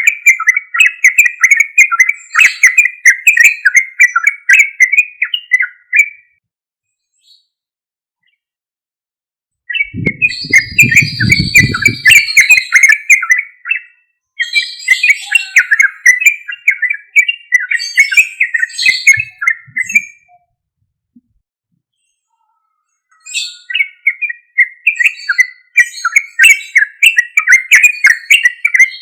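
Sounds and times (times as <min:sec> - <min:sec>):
bird chattering song: 0:00.0 - 0:06.3, 0:09.7 - 0:20.4, 0:22.3 - 0:29.0.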